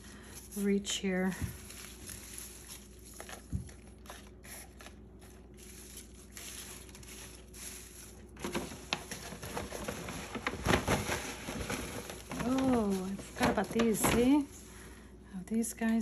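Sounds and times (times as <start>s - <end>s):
leaves and paper rustling: 0.0s - 3.5s, 5.2s - 14.7s.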